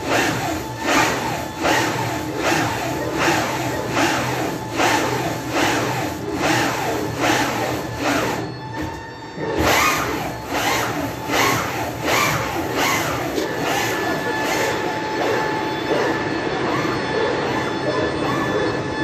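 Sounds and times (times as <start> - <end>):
actuator rhythmic rasping: 0.0 - 19.0.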